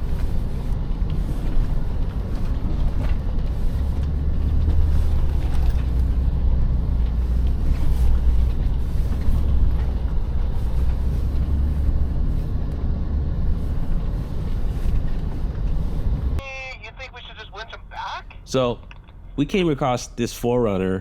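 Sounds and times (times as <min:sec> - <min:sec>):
off-road vehicle engine rumble: 0:00.0 - 0:21.0.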